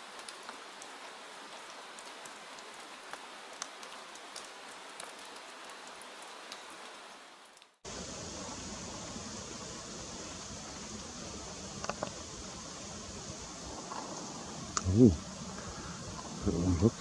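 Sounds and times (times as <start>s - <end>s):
soft rain patter: 0.0s - 17.0s
steady hiss: 0.0s - 17.0s.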